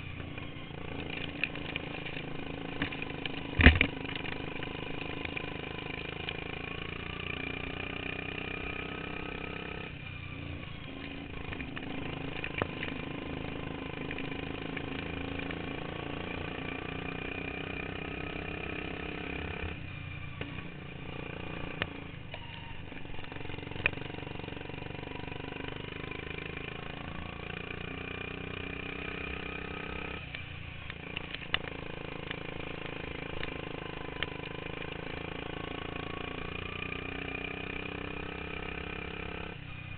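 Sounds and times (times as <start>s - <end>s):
lawn mower engine revving: 0.0s - 39.9s.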